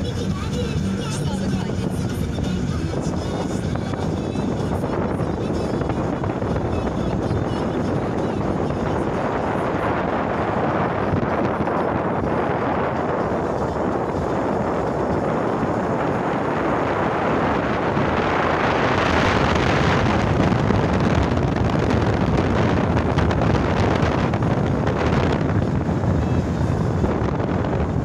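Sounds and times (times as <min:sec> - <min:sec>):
wind on microphone: 0:00.0 - 0:28.0.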